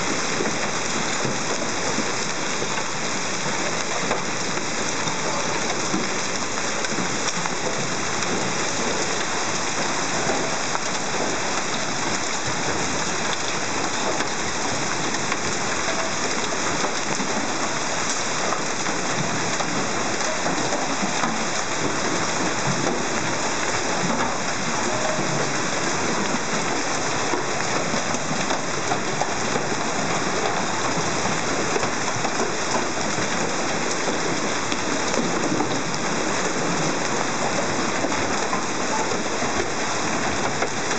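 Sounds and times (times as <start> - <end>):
hail falling on street and cars: 0.0 - 40.9.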